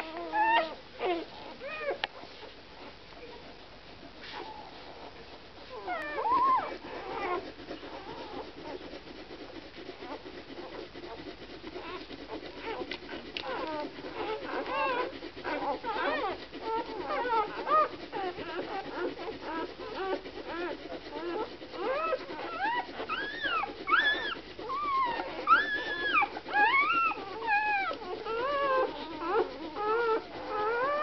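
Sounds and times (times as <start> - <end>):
puppies squeaking and whimpering: 0.0 - 2.6, 4.2 - 9.0, 10.0 - 31.0.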